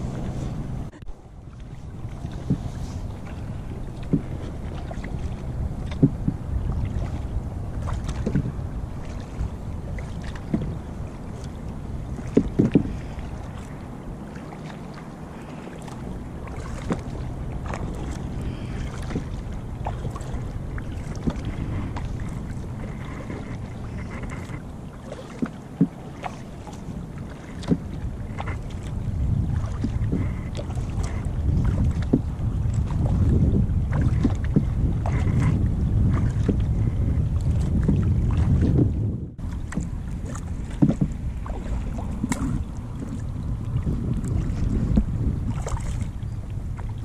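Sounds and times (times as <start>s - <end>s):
wind rumbling on microphone: 0.0s - 47.0s.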